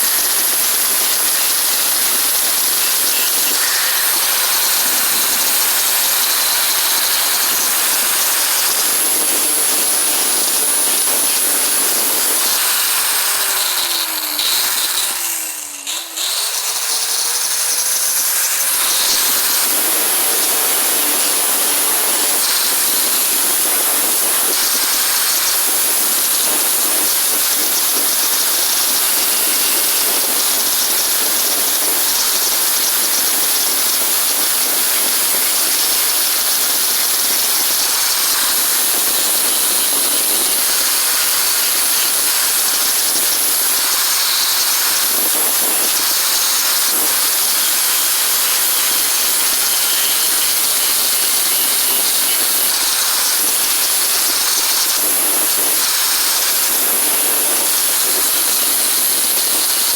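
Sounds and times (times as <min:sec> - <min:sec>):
power tool running with hiss: 0:00.0 - 0:59.9.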